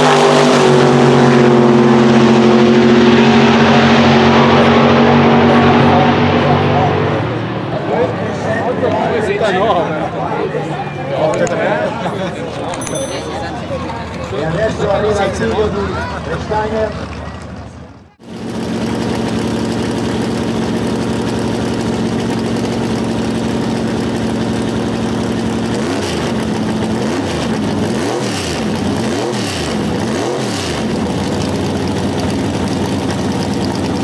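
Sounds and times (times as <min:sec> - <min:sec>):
engine idling and revving: 0:00.0 - 0:08.7, 0:14.2 - 0:34.0.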